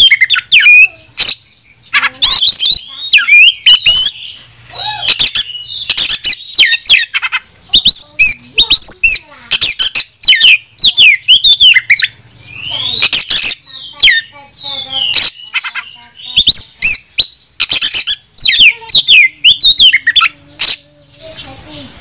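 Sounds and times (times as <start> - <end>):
bird singing whistled phrases: 0.0 - 21.9.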